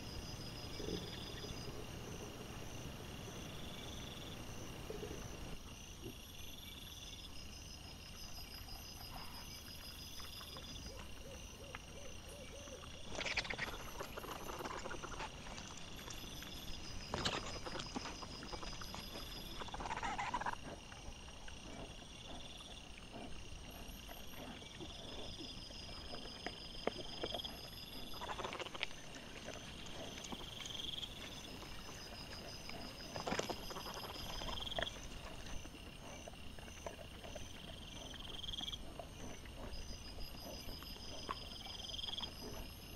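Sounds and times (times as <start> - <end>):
insects chirring in pulses: 0.0 - 42.9
wild boar foraging noises: 0.0 - 42.9.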